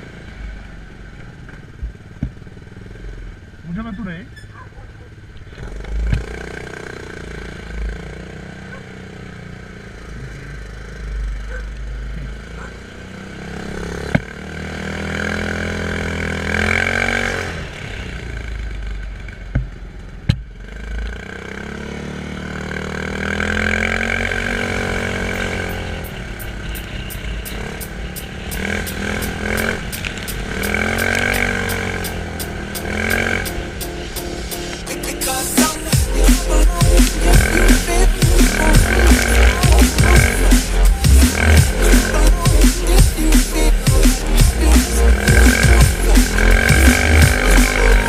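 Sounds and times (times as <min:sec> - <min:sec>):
quad bike engine revving: 0:00.0 - 0:34.1, 0:34.8 - 0:48.0.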